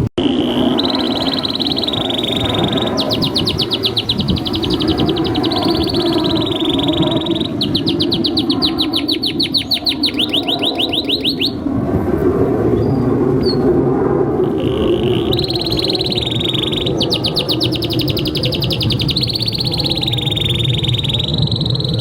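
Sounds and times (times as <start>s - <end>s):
steady low noise: 0.0s - 22.0s
canary singing trills: 0.2s - 11.6s, 14.4s - 22.0s.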